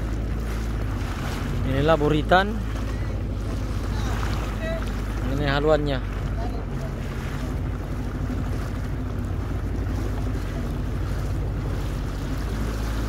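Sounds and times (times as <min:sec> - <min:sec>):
boat engine humming: 0:00.0 - 0:13.0
sea noise: 0:00.0 - 0:13.0
wind buffeting microphone: 0:00.0 - 0:13.0.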